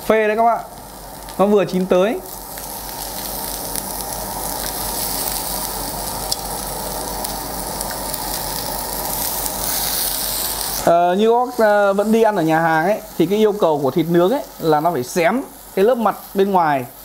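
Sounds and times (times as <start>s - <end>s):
pork sizzling on grill: 0.0s - 17.0s.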